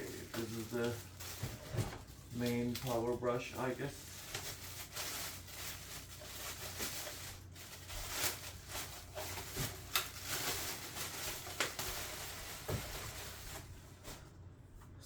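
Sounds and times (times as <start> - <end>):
packaging rustling: 0.0 - 14.3.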